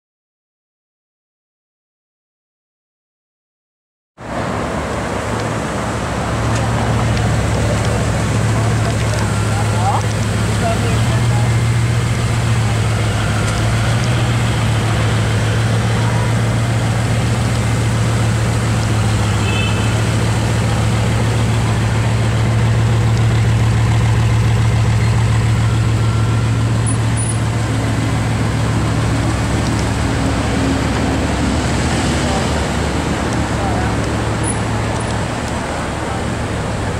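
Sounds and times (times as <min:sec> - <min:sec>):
car engine idling: 0:04.3 - 0:36.9.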